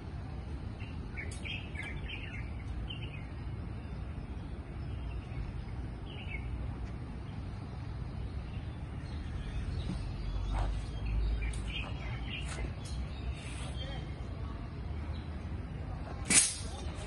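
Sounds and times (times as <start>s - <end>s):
low outdoor rumble: 0.0s - 17.0s
birds chirping: 0.2s - 16.0s.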